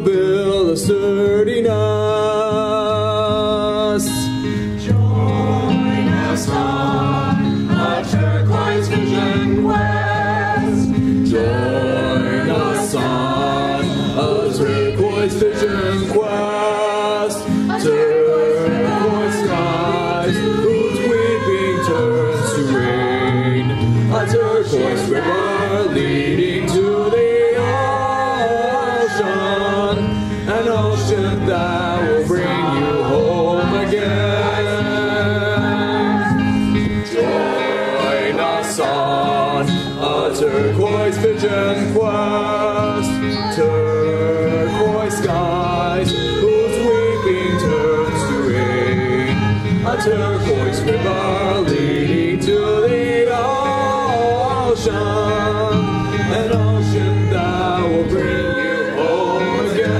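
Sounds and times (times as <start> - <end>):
choir singing: 1.5 - 59.9.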